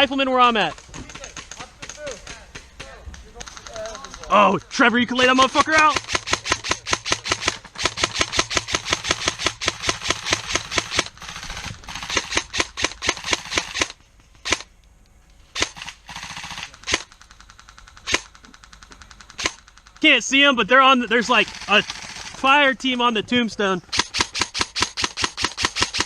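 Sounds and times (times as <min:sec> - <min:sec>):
airsoft rifles firing: 0:00.0 - 0:14.7, 0:15.4 - 0:23.2, 0:23.8 - 0:26.0.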